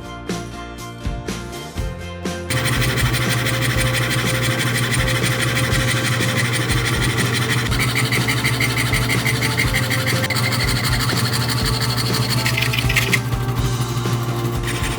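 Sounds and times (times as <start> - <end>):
power tool grinding: 2.5 - 14.9
pulsing high whine: 2.5 - 14.9.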